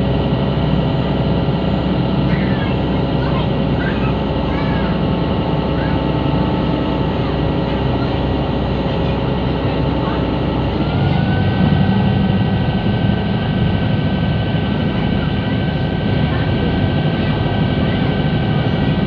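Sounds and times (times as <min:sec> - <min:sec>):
engine whine: 0:00.0 - 0:19.0
ferry engines rumbling: 0:00.0 - 0:19.0.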